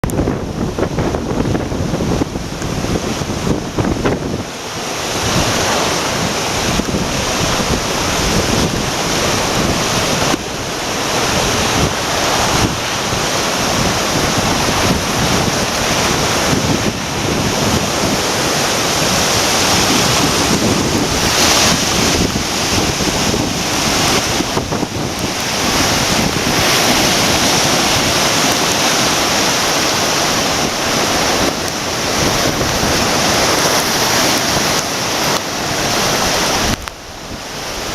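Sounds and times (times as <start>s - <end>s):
river rushing: 0.0s - 37.9s
wind gusting on microphone: 0.0s - 37.9s.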